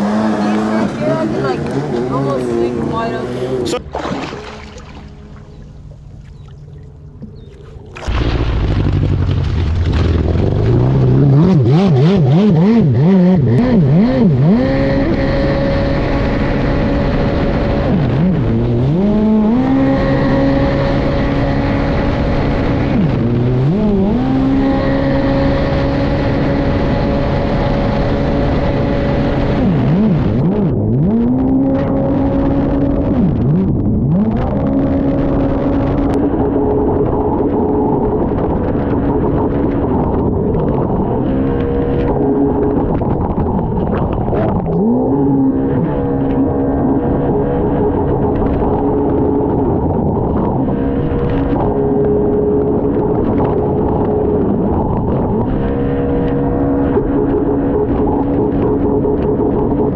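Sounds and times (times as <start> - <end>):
jet ski engine revving: 0.0 - 59.9.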